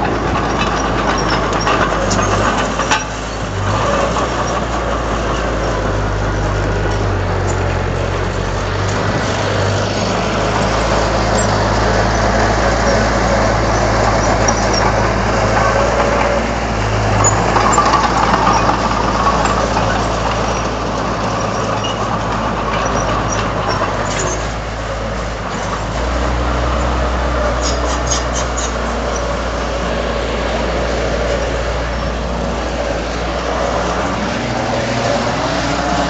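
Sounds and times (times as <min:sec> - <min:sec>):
bulldozer diesel engine: 0:00.0 - 0:36.0.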